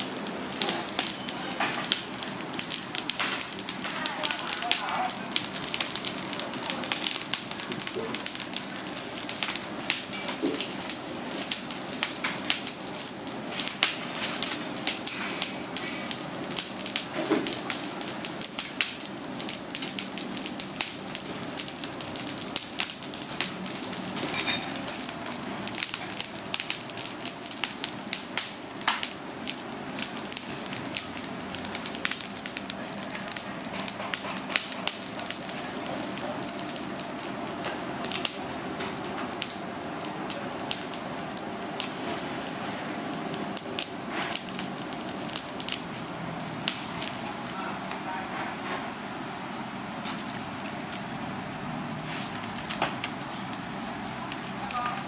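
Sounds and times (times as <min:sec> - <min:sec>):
charcoal fire crackling and popping: 0:00.0 - 0:55.0.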